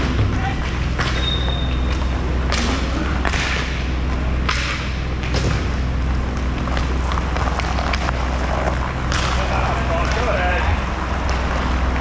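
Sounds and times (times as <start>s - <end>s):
skates and sticks scraping: 0.0s - 12.0s
steady low rumble: 0.0s - 12.0s.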